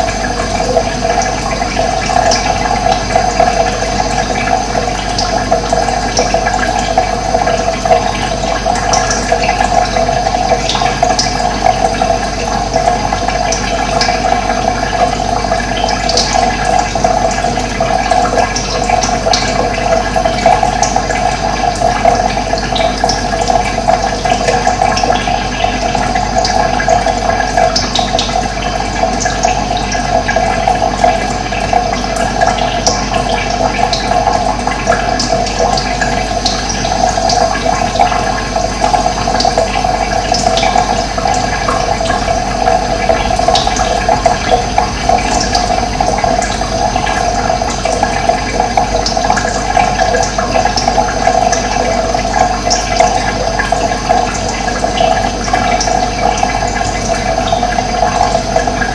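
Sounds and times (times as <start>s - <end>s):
running water rushing: 0.0s - 58.9s.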